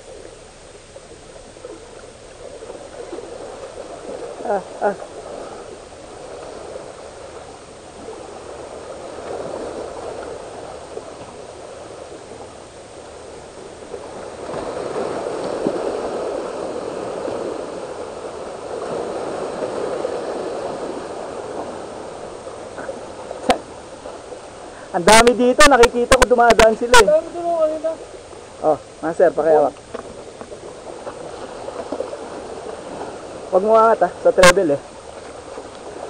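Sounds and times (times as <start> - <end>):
waves splashing among boulders: 0.0 - 36.0.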